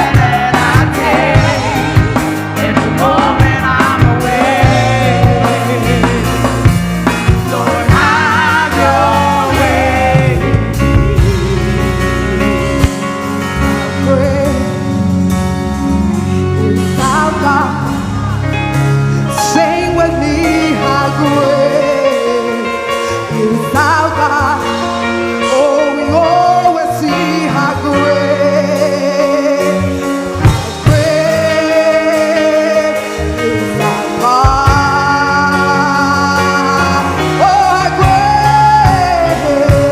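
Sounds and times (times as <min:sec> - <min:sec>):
person singing gospel: 0:00.0 - 0:15.3, 0:16.1 - 0:39.9
band playing held chords: 0:00.0 - 0:39.9.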